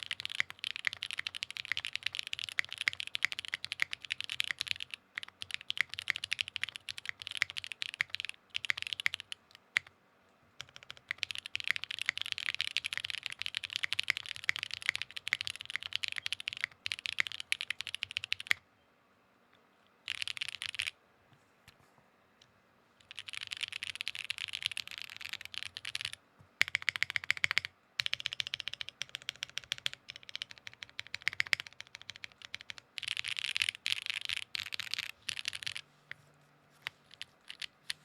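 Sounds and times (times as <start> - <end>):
mechanical keyboard typing: 0.0 - 9.9, 10.6 - 18.6, 20.1 - 21.0, 23.0 - 35.8, 36.8 - 38.0.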